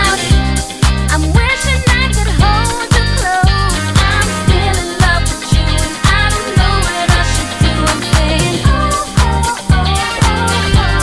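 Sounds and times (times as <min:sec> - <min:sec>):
pop music with steady beat: 0:00.0 - 0:11.0.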